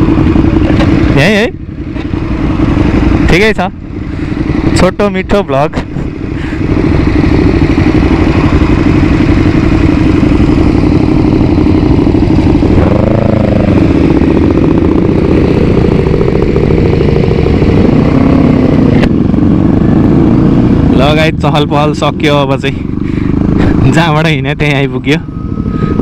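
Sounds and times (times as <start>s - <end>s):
motorcycle engine revving: 0.0s - 26.0s
motorcycle engines idling: 0.0s - 26.0s.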